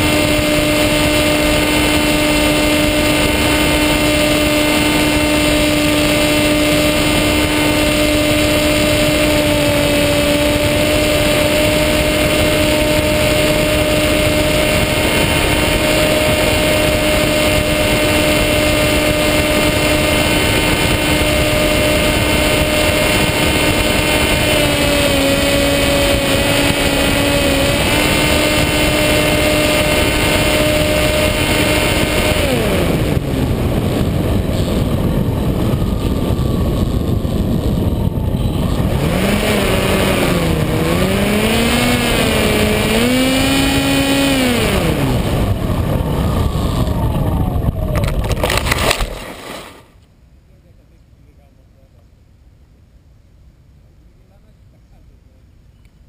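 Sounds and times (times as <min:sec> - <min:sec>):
electric motor and propeller whine: 0:00.0 - 0:50.0
wind rush: 0:00.0 - 0:50.0.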